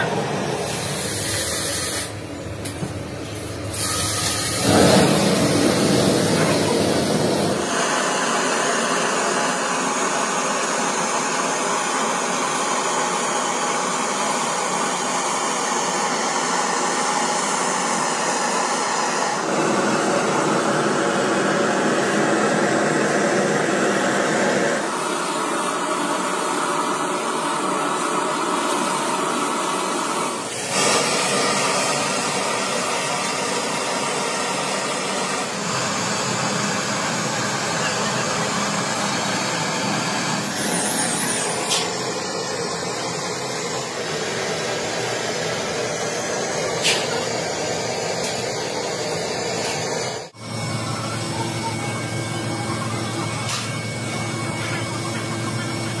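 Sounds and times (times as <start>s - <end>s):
machine hissing and whirring: 0.0s - 56.0s.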